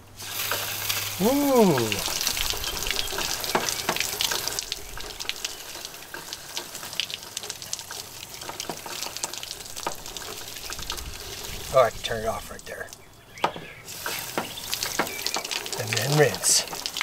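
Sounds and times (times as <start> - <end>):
water spraying from hand sprayer: 0.0 - 12.9, 13.5 - 17.0
water dripping onto ground: 0.2 - 17.0.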